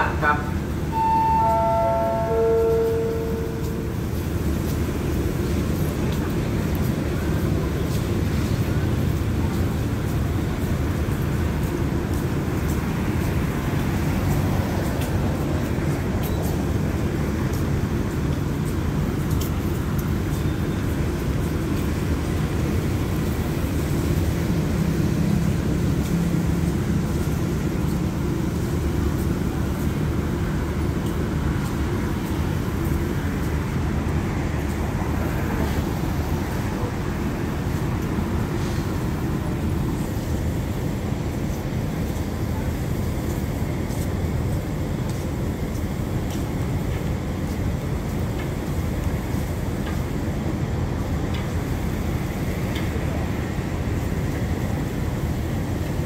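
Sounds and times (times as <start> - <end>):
train diesel engines idling: 0.0 - 56.0.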